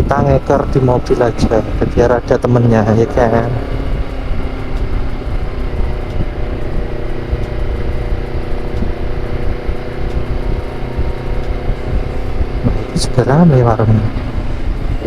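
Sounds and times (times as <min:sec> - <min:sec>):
motorcycle engine cruising: 0:00.0 - 0:15.0
wind rumble: 0:00.0 - 0:15.0.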